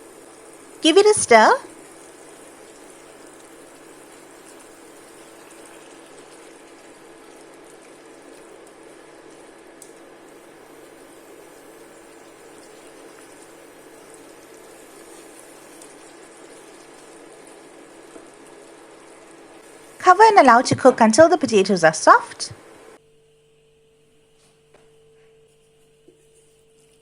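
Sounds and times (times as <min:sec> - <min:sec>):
pot boiling and bubbling: 0:00.0 - 0:23.0.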